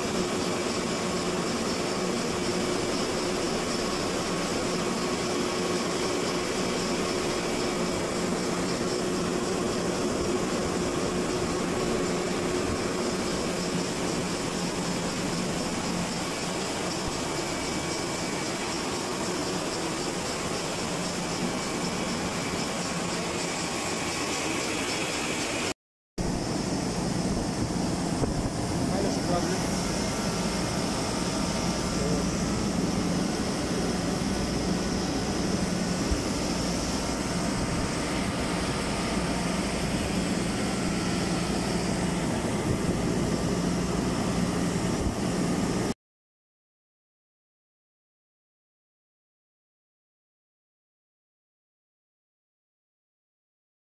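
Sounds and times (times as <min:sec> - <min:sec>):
air conditioning fan hum: 0:00.0 - 0:45.9.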